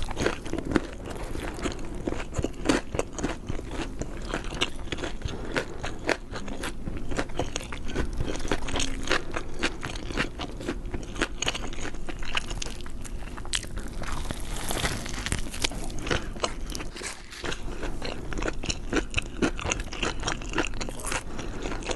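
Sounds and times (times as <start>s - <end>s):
person chewing crunchy food: 0.0s - 21.9s.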